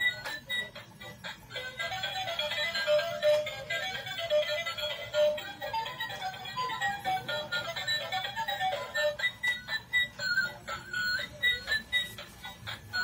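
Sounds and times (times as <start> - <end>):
tinny electronic toy melody: 0.0 - 13.0.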